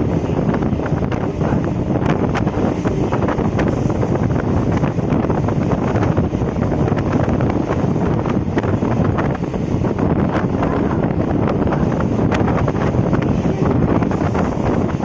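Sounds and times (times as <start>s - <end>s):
train wheels rumbling on track: 0.0s - 15.0s
wind rushing over microphone: 0.0s - 15.0s.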